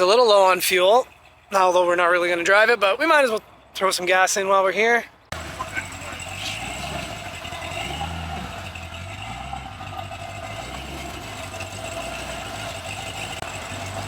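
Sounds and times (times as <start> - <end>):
truck engine idling: 0.0 - 4.0, 5.1 - 14.0.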